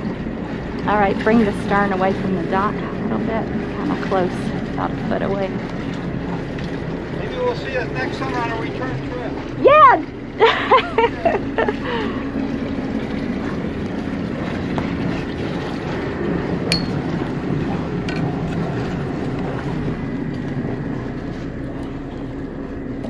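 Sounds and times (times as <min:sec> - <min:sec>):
boat engines running: 0:00.0 - 0:23.0.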